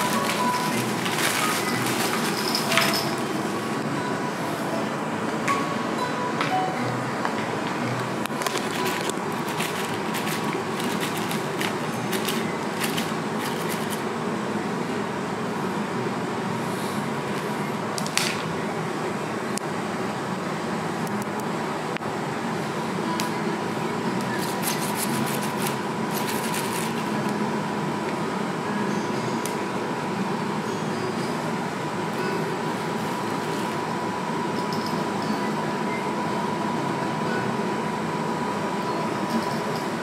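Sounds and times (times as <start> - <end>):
steady room hum: 0.0 - 40.0.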